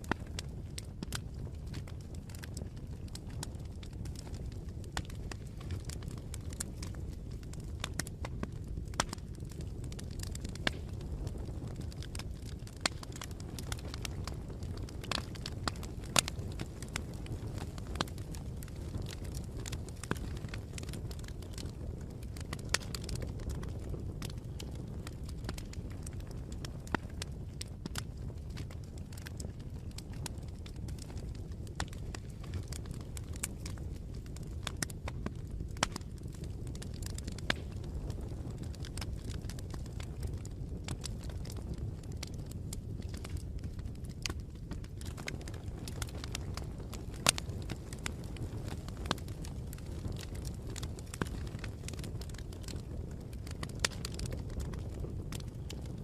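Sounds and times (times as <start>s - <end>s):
bonfire crackling and popping: 0.0s - 56.0s
low rumble of flame: 0.0s - 56.0s.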